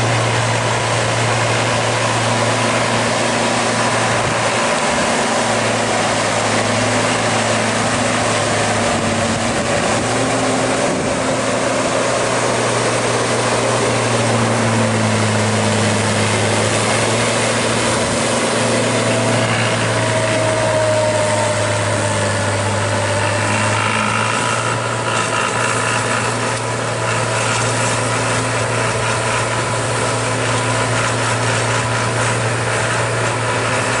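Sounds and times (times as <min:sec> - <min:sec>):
tractor diesel engine under load: 0:00.0 - 0:34.0.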